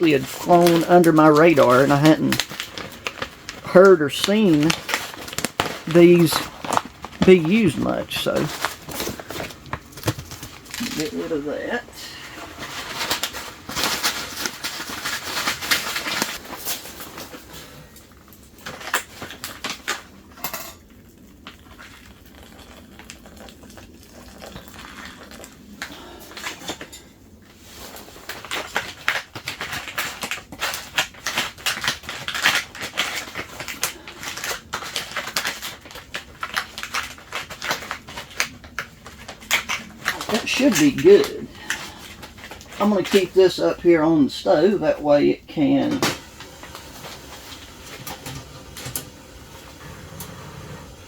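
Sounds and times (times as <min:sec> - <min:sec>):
foil pouch crinkling: 0:00.0 - 0:20.2, 0:20.8 - 0:44.0, 0:44.6 - 0:49.8.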